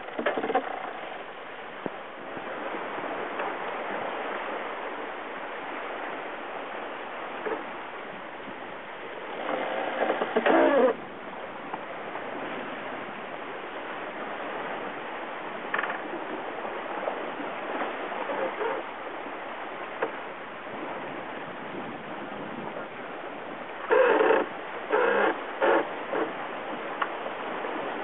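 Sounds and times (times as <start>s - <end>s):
water rushing: 0.0s - 28.0s.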